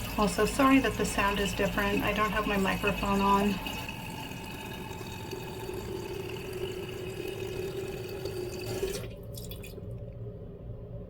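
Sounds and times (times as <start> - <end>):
toilet tank refilling hiss: 0.0 - 9.9.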